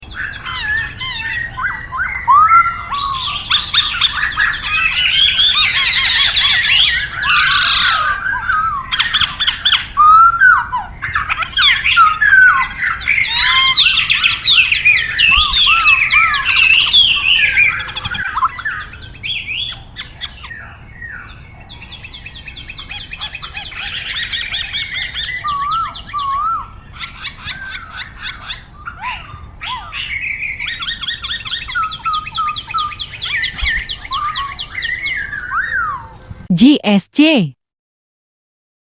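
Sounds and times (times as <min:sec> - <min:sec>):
bird singing and chirping: 0:00.0 - 0:36.2.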